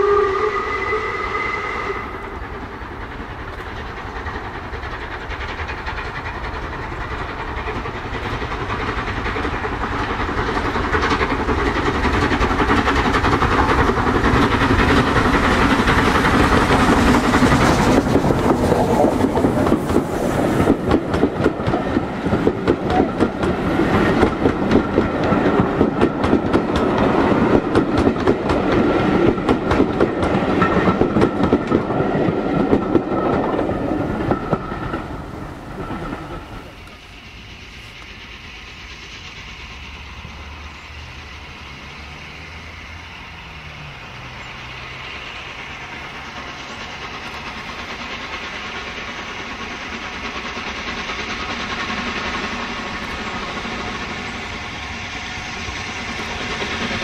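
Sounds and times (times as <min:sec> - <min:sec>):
distant steam locomotive: 0:00.0 - 0:57.0
train wheels clicking over rail joints: 0:01.1 - 0:57.0.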